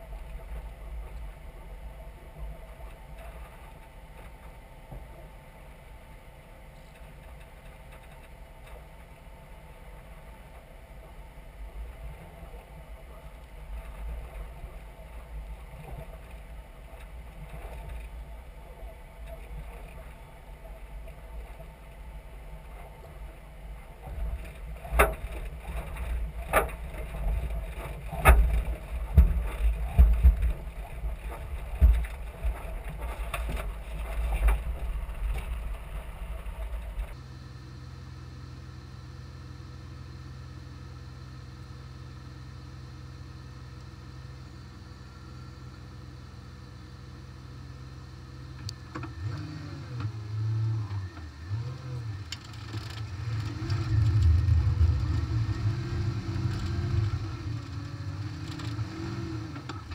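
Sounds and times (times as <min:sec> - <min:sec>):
vehicle driving low rumble: 0:00.0 - 0:59.9.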